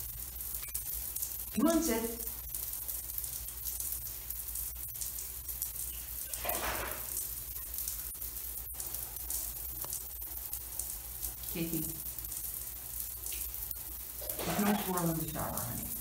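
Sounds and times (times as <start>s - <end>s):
shower water running: 0.0s - 16.0s.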